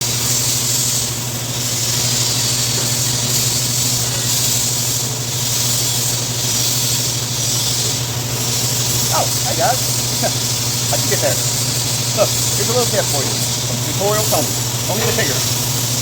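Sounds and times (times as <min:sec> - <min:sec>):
low electrical buzz: 0:00.0 - 0:16.0
welding arc hissing: 0:00.0 - 0:16.0.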